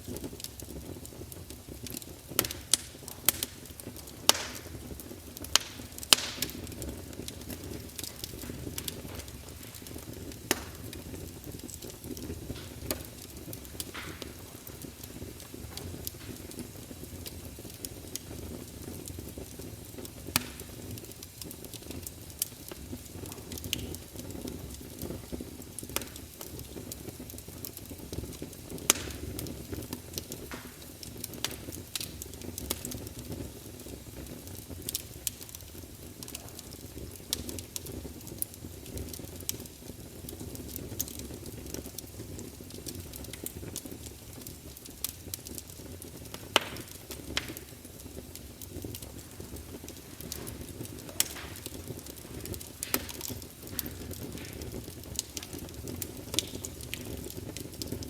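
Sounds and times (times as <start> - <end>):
campfire rumble: 0.0 - 58.0
fire crackling and popping: 0.0 - 58.0
wood snapping in fire: 0.0 - 58.0.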